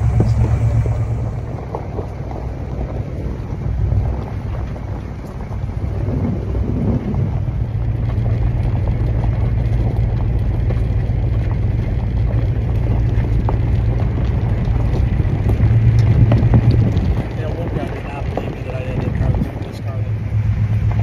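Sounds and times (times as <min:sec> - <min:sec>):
car engine droning: 0:00.0 - 0:21.0
tyres on gravel: 0:00.0 - 0:21.0.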